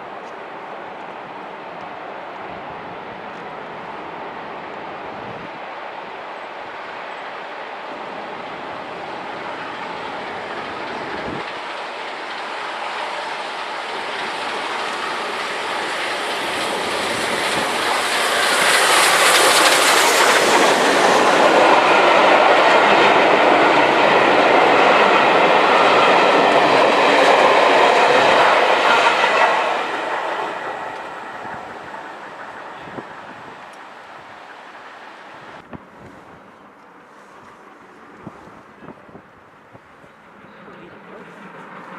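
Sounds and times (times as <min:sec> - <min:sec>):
train passing by: 0:00.0 - 0:41.9.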